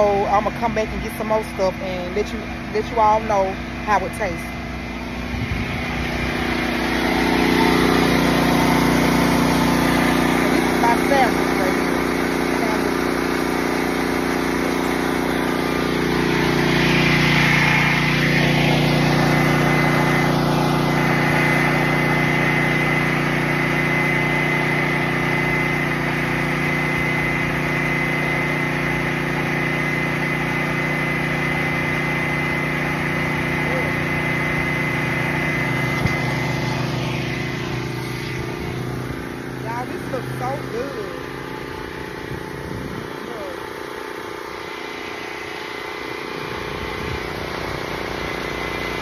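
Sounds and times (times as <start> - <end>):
small engine humming with whine: 0.0 - 49.0.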